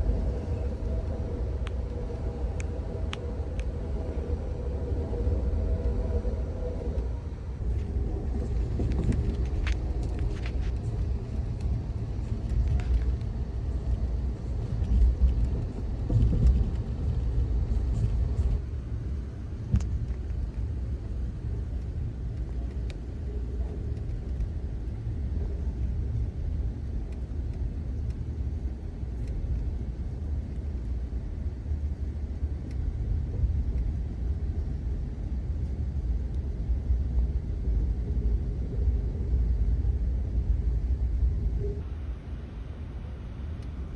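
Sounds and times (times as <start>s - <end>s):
train rumbling along track: 0.0s - 43.9s.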